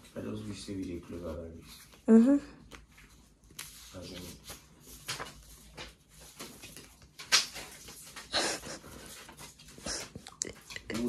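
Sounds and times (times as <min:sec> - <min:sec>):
banknotes rustling and crinkling: 0:00.0 - 0:11.0.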